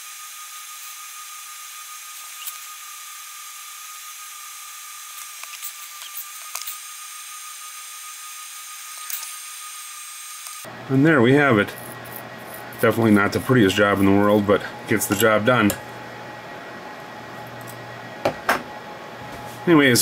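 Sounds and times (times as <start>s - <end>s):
thin high whine: 0.0s - 18.4s.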